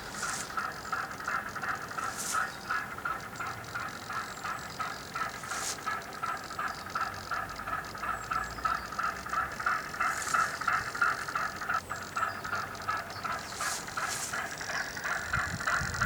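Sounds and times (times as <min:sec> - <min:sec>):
model boat motor chattering: 0:00.0 - 0:16.0.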